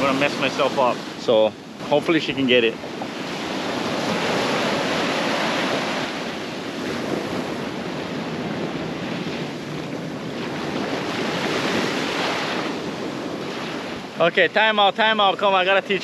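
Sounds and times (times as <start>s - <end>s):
ocean surf on sandy shore: 0.0s - 16.0s.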